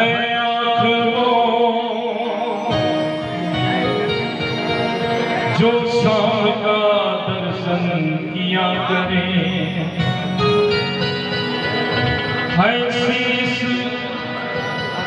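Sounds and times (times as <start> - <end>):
sustained instrument tones: 1.4 - 6.8, 7.8 - 15.0.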